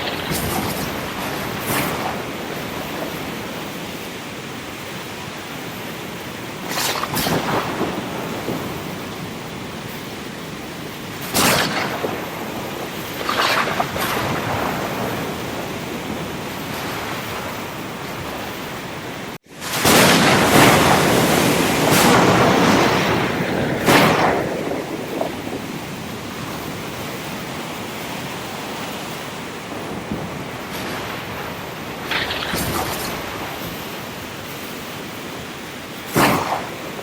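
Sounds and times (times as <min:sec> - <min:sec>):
ocean surf washing: 0:00.0 - 0:37.0
waves crashing: 0:00.0 - 0:37.0.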